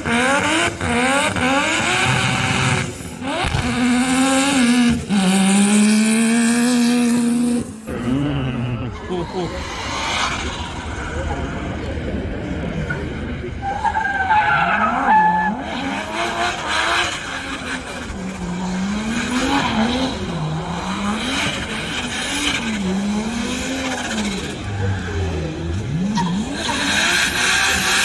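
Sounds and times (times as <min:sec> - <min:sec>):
tyres squealing and skidding: 0:00.0 - 0:11.8, 0:12.9 - 0:28.0
car engine revving: 0:00.0 - 0:28.0.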